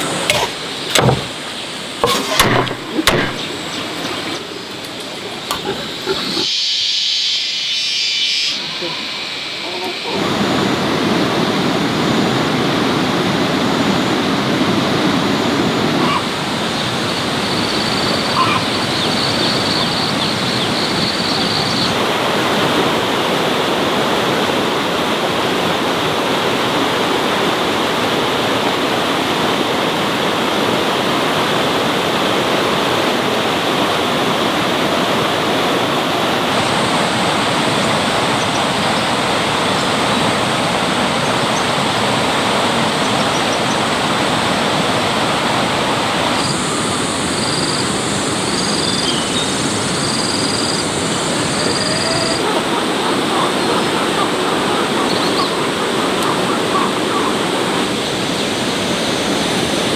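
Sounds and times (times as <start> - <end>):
heavy rain pouring: 8.6 - 59.9.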